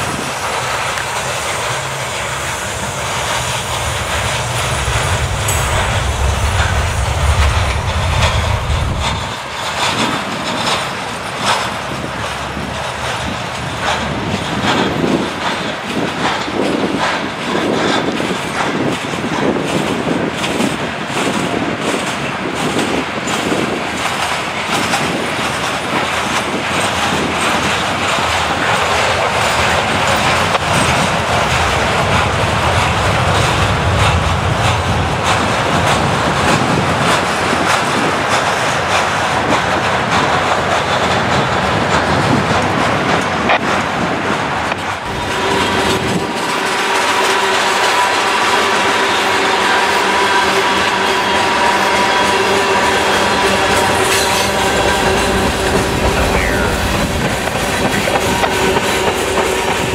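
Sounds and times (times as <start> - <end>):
freight cars rolling on rails: 0.0 - 59.9
wheels clacking over rail joints: 0.0 - 59.9.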